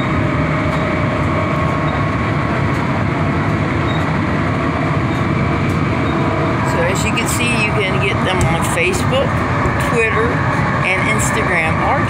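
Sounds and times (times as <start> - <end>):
bus engine and road rumble: 0.0 - 12.0
faint steady whine: 0.0 - 12.0.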